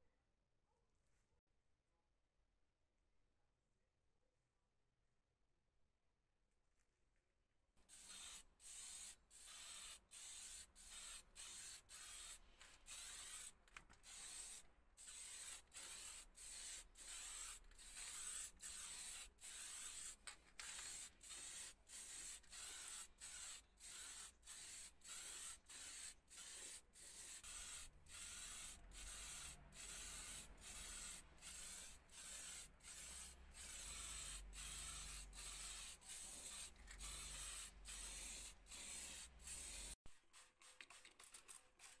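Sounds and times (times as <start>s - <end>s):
spray paint hissing bursts: 7.9s - 42.0s.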